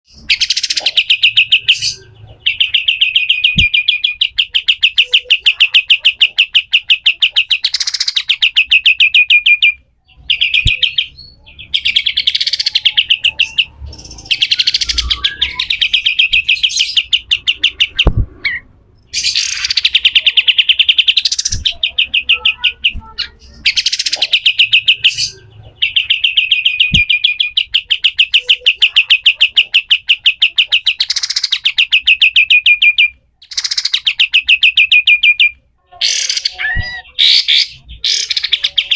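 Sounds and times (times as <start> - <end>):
bird singing rattling trills: 0.1 - 35.5.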